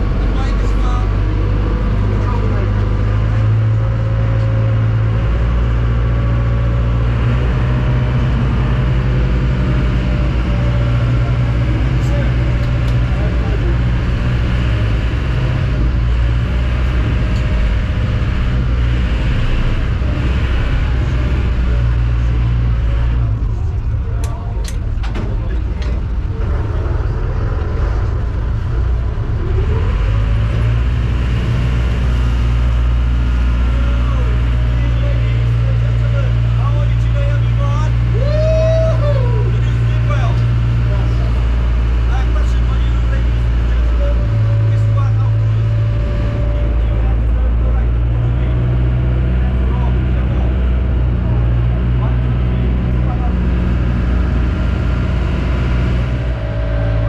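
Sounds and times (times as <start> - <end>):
vehicle engine drone: 0.0 - 57.0.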